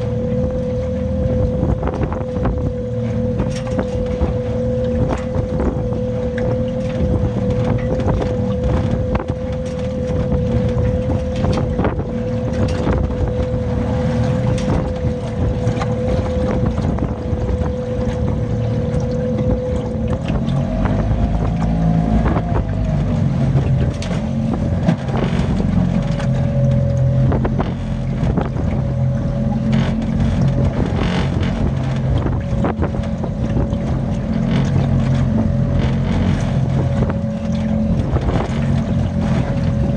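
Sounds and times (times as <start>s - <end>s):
steady hum: 0.0s - 39.9s
wind buffeting microphone: 0.0s - 39.9s.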